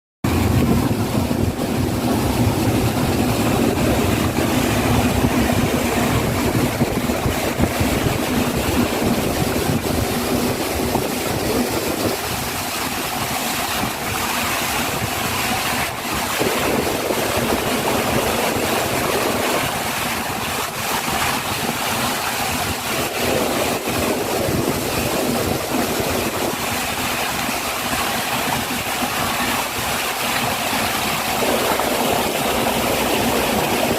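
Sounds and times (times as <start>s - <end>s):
motorboat engine running: 0.2s - 33.9s
water rushing past hull: 0.2s - 33.9s
wind on microphone: 0.2s - 33.9s.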